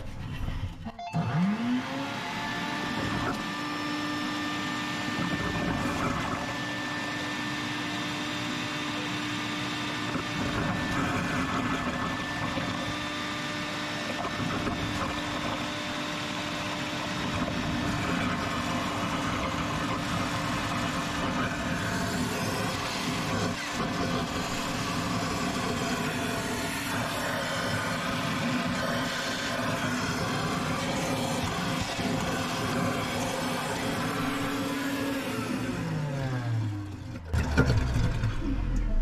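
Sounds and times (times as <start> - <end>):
motor starting up: 0.0 - 7.3, 10.1 - 39.0.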